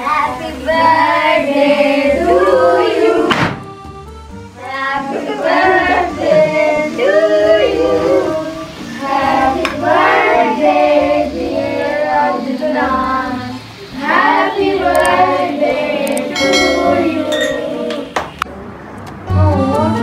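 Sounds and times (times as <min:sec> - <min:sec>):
children singing together: 0:00.0 - 0:03.5, 0:04.6 - 0:18.2.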